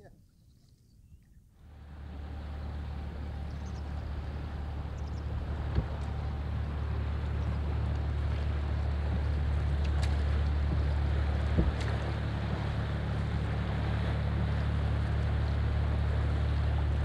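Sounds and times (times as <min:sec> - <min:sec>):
boat diesel engine drone: 0:01.5 - 0:17.0
water wash: 0:01.7 - 0:17.0.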